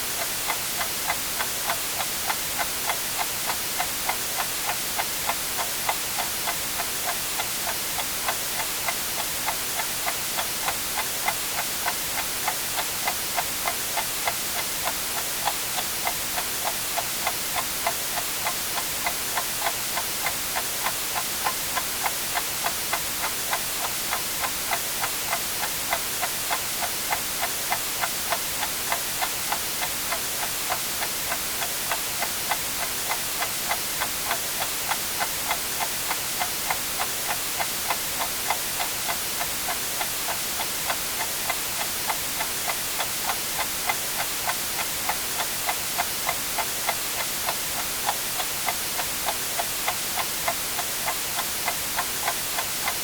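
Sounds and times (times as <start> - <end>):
white noise hiss: 0.0 - 53.0
clock ticking: 0.2 - 53.0.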